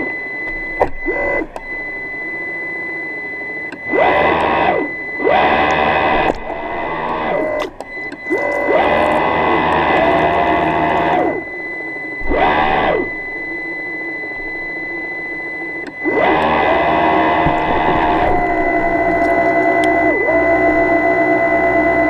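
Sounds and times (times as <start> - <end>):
electric motor whine: 0.0 - 22.0
steady high-pitched tone: 0.0 - 22.0.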